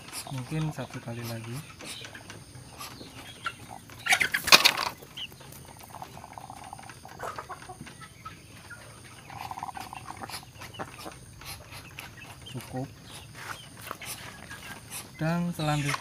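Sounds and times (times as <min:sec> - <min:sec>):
buzzy rattling chicken breaths: 0:00.0 - 0:15.4
chicken struggling: 0:00.0 - 0:16.0.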